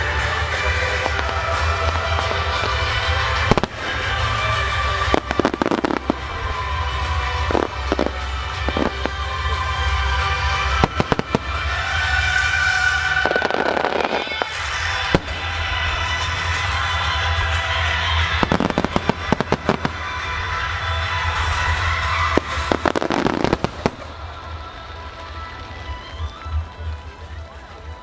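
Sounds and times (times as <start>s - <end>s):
fireworks bursting with bangs: 0.0s - 28.0s
fireworks crackling: 0.0s - 28.0s
steady music: 0.0s - 28.0s.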